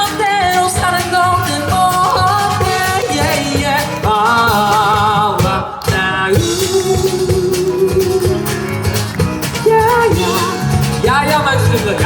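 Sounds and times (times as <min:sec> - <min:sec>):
live band pop music: 0:00.0 - 0:12.0.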